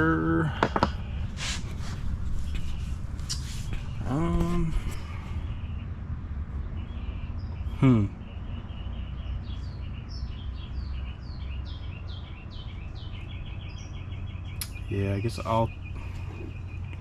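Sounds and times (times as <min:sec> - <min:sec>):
bird chirping: 0:00.0 - 0:17.0
low outdoor rumble: 0:00.0 - 0:17.0.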